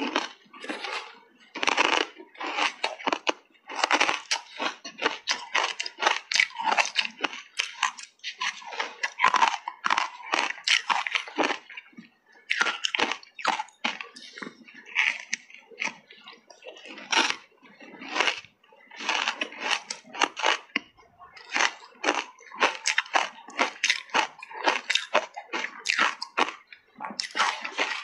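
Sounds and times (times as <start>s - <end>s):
ice being bitten and chewed: 0.0s - 28.0s.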